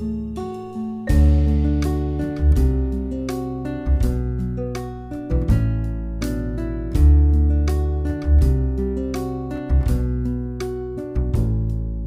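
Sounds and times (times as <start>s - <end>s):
loud chord: 0.0s - 11.6s
instrumental music with deep bass: 0.0s - 12.0s.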